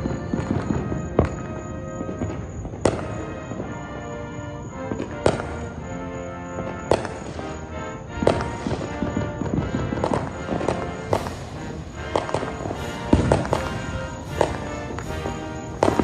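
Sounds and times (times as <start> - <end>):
music of held tones: 0.0 - 16.0.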